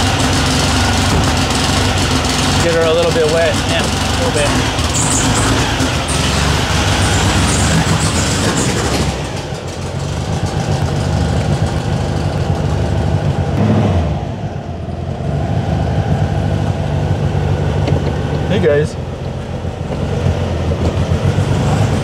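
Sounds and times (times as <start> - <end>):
car engine driving away: 0.0 - 22.0.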